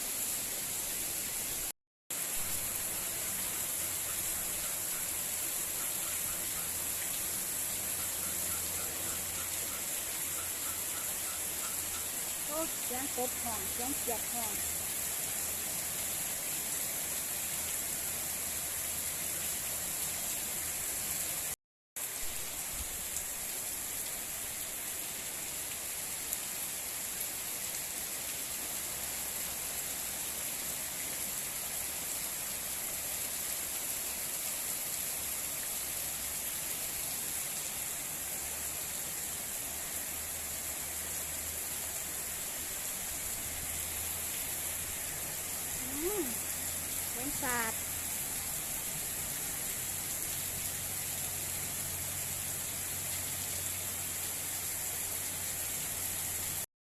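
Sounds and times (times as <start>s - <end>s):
heavy rain falling: 0.0s - 27.8s, 35.2s - 56.7s.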